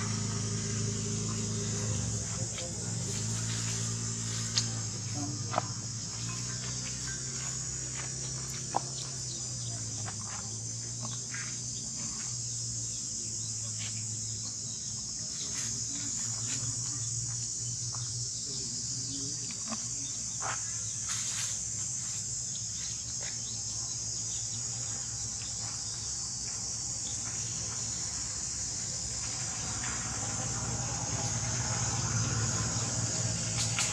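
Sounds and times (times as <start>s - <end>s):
insects buzzing: 0.0s - 33.9s.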